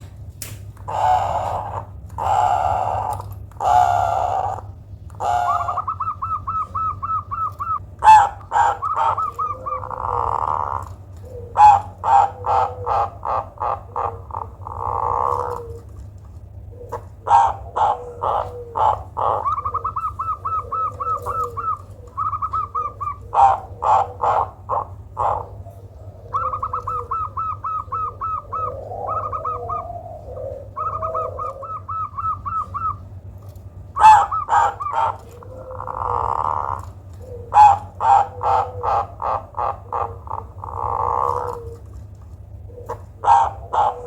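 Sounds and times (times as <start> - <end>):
dove calling: 0.0 - 44.0.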